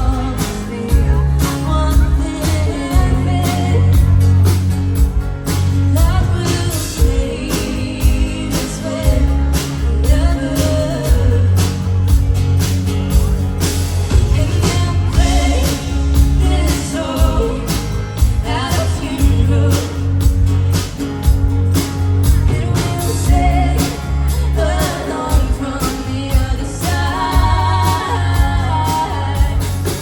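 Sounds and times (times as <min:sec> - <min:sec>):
person singing: 0:00.0 - 0:04.6, 0:05.9 - 0:12.2, 0:14.1 - 0:20.6, 0:22.3 - 0:30.0
live rock band playing: 0:00.0 - 0:30.0.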